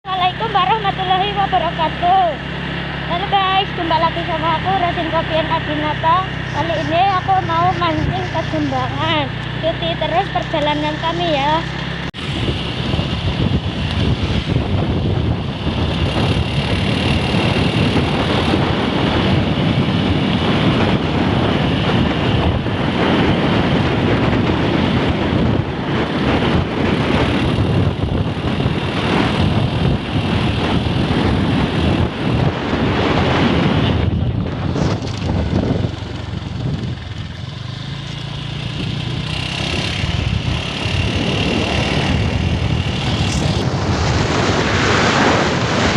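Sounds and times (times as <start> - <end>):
vehicle engine and road noise: 0.0 - 45.9
wind buffeting microphone: 0.0 - 45.9.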